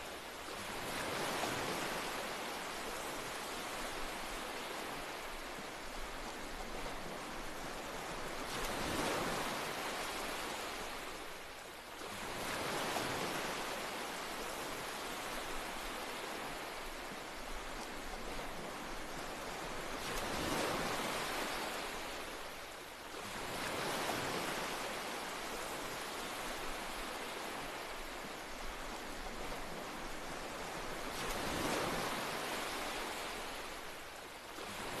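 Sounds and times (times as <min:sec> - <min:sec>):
rushing nature ambience: 0:00.0 - 0:35.0.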